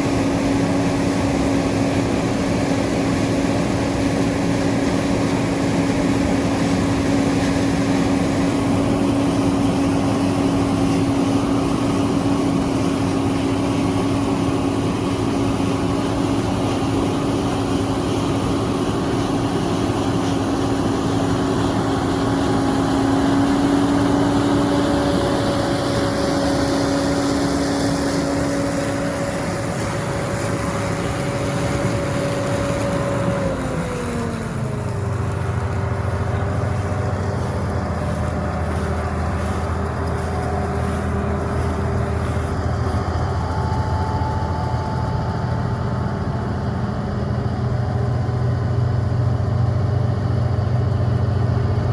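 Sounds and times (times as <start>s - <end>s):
harvest machinery whining: 0.0s - 51.9s.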